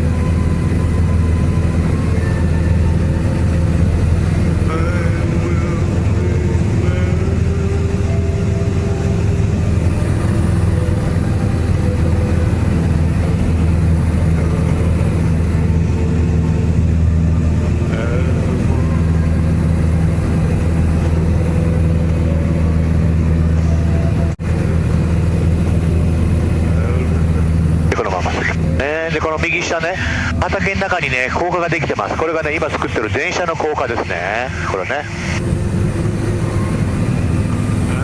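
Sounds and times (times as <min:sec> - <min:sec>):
aircraft engine and propeller droning: 0:00.0 - 0:38.0.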